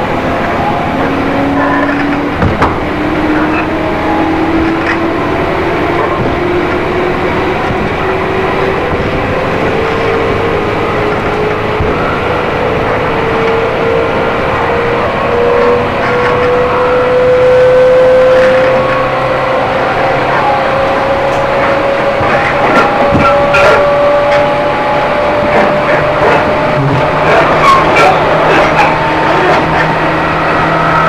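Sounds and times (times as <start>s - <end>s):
electric train motor whine: 0.0s - 31.0s
wheel and rail rumble: 0.0s - 31.0s.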